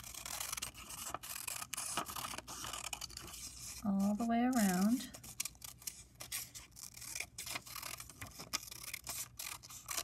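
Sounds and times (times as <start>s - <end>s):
paper rustling: 0.0s - 10.0s
scissors snipping paper: 0.0s - 10.0s.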